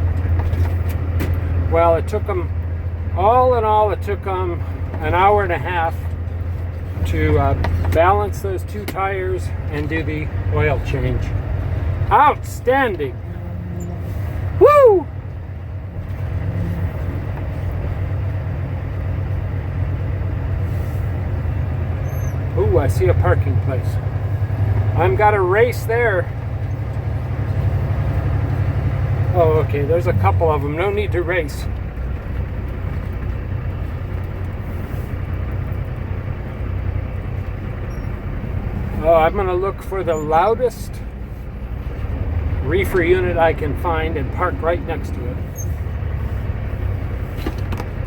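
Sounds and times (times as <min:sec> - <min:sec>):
truck diesel engine rumbling: 0:00.0 - 0:48.0.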